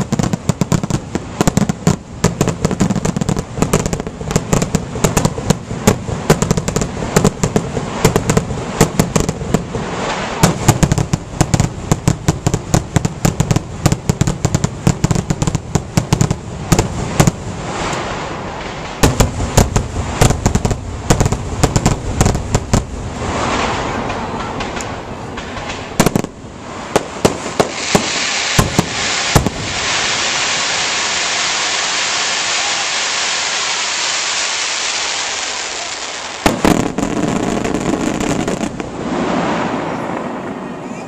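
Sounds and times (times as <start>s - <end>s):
fireworks bangs and cracks: 0.0s - 40.9s.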